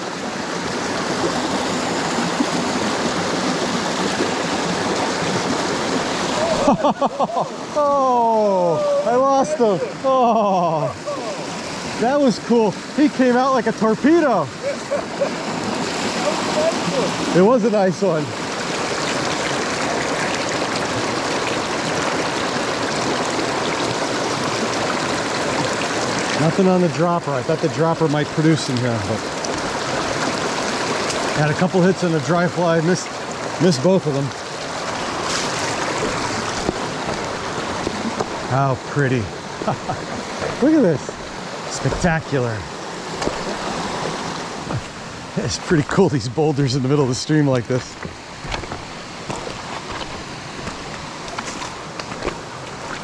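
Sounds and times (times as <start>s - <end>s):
stream water rushing over rocks: 0.0s - 53.0s.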